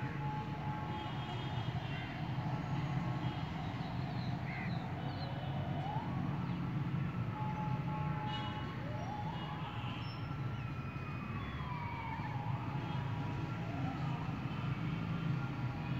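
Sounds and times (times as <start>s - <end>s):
distant traffic hum: 0.0s - 15.9s.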